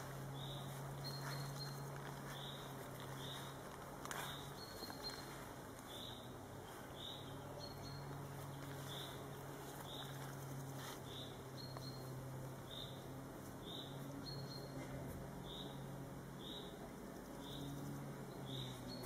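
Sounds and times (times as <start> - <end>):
songbird chirping: 0.0 - 19.0
steady low hum: 0.0 - 19.0.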